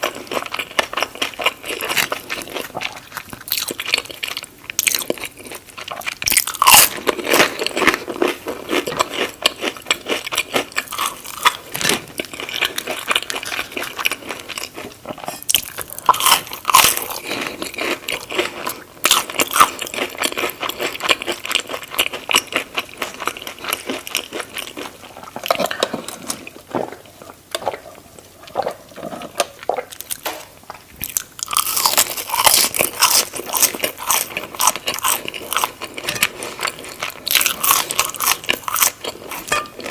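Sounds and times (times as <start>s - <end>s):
crunchy chewing of crisp food: 0.0s - 39.9s.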